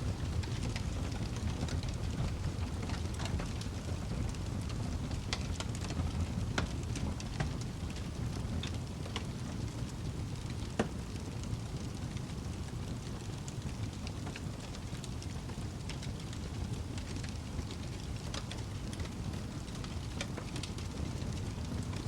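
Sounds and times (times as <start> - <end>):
low rumble of burning: 0.0 - 22.0
wood fire crackling: 0.0 - 22.0.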